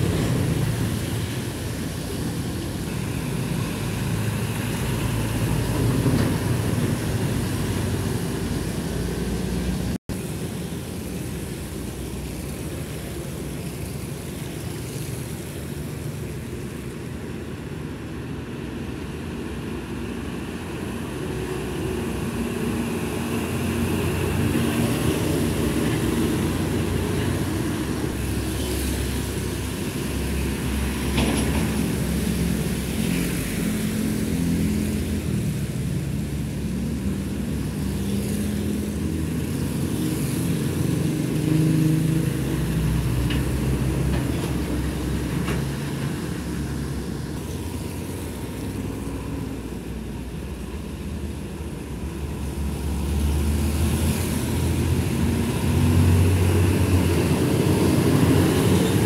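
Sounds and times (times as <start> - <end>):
diesel trucks driving past: 0.0 - 59.0
motorbikes passing: 0.0 - 59.0
tyre noise on wet road: 0.0 - 59.0.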